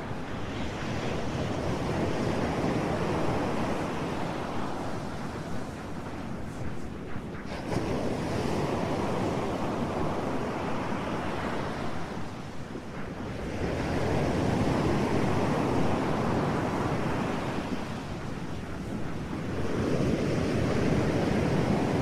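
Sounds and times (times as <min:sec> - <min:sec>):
ocean waves rushing: 0:00.0 - 0:22.0.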